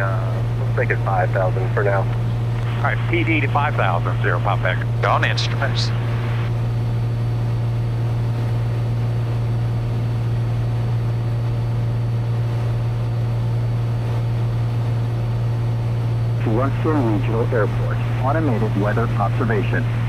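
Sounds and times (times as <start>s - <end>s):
aircraft engine drone in cabin: 0.0s - 20.0s.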